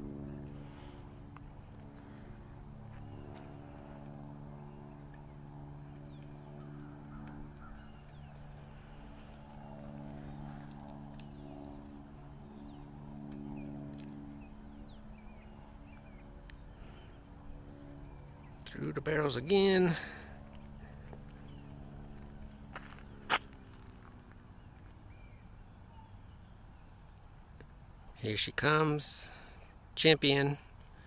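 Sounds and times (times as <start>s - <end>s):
mechanical drone: 0.0s - 25.4s.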